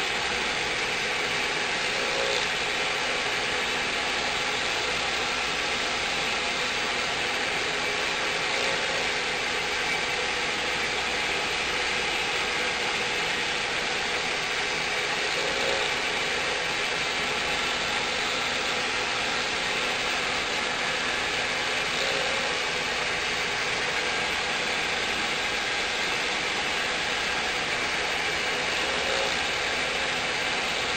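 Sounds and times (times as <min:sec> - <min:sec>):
router spindle milling: 0:00.0 - 0:30.9.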